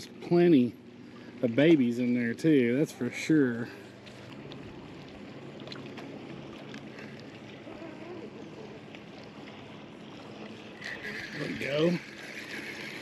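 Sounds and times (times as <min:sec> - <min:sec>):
water washing around boat: 0:00.0 - 0:13.0
wind: 0:00.0 - 0:13.0.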